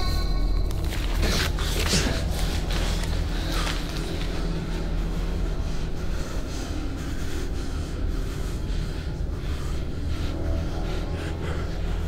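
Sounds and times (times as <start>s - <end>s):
low rumbling drone: 0.0s - 12.0s.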